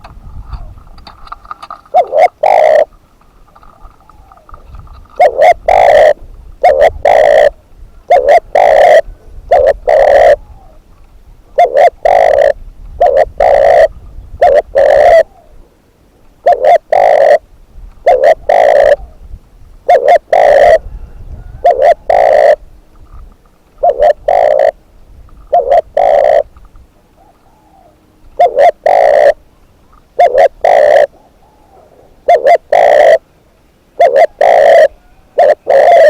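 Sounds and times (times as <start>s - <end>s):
dove cooing: 1.4s - 36.0s.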